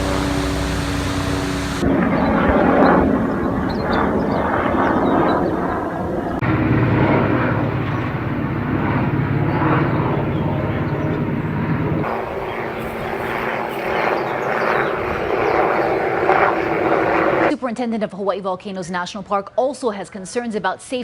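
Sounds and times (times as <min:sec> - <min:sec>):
helicopter flying overhead: 0:00.0 - 0:17.5.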